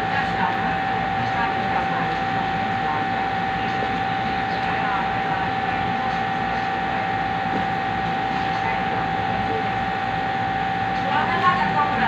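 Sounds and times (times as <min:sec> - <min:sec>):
machine whirring with high whine: 0:00.0 - 0:12.0.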